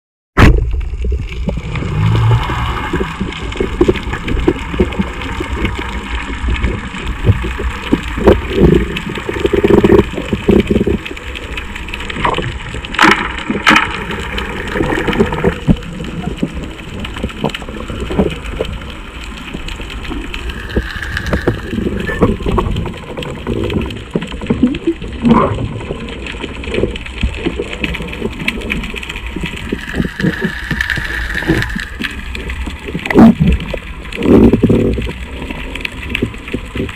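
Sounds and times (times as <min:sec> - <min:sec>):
clicks and crackles: 0:00.4 - 0:36.9
underwater water rumble: 0:00.4 - 0:36.9.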